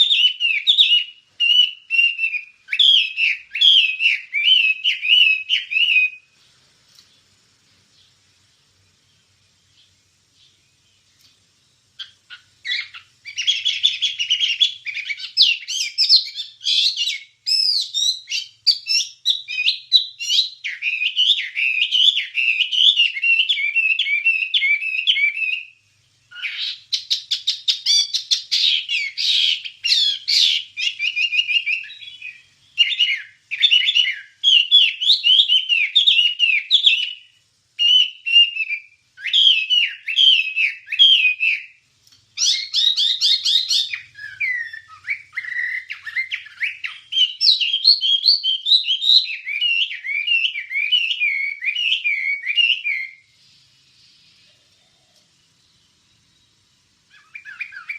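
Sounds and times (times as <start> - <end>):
bird singing whistled phrases: 0.0 - 6.4, 12.0 - 41.8, 42.4 - 54.4, 56.4 - 57.9.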